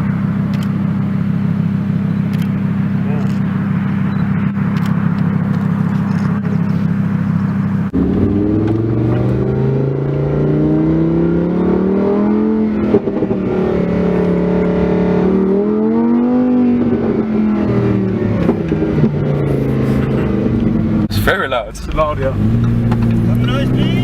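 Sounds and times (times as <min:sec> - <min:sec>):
sports car engine: 0:00.0 - 0:24.0.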